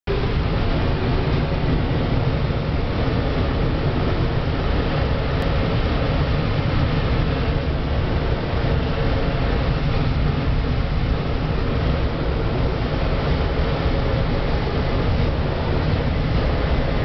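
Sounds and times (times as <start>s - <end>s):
air rushing over glider: 0.1s - 17.0s.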